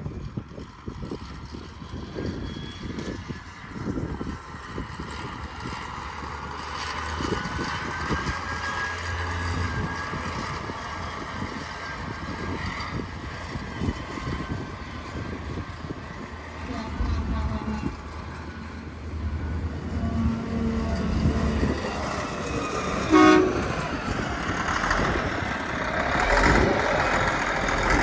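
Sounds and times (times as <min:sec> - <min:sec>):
steady mechanical drone: 0:00.0 - 0:28.0
wind buffeting microphone: 0:00.0 - 0:28.0.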